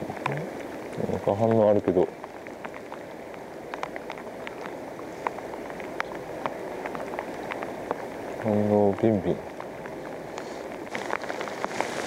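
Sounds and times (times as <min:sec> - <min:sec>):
flowing river water: 0:00.0 - 0:12.0
light ticks and drips: 0:00.0 - 0:12.0.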